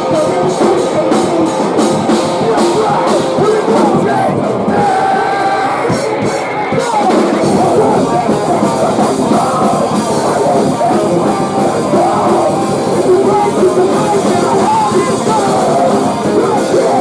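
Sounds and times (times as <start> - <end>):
distorted electric guitars: 0.0 - 17.0
drum kit: 0.0 - 17.0
rock band playing live: 0.0 - 17.0.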